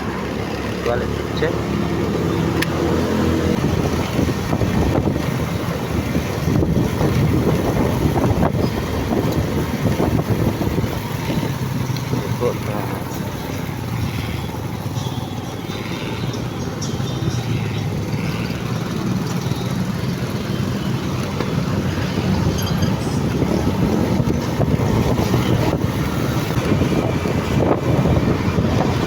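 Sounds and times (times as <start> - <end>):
motorcycle engine running: 0.0 - 29.0
wind buffeting microphone: 3.4 - 29.0.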